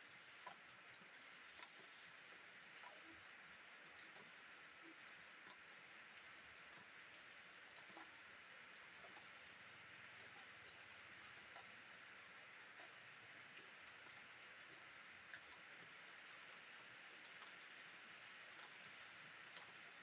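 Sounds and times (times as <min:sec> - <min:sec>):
soft rain hiss: 0:00.0 - 0:20.0
raindrop ticks: 0:00.4 - 0:03.2, 0:03.8 - 0:09.4, 0:10.2 - 0:20.0.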